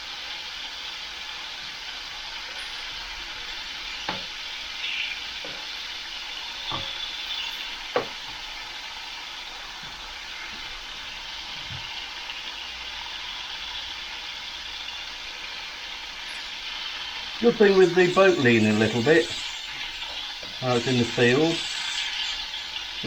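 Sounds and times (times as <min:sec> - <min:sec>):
bacon sizzling in a frying pan: 0:00.0 - 0:23.0.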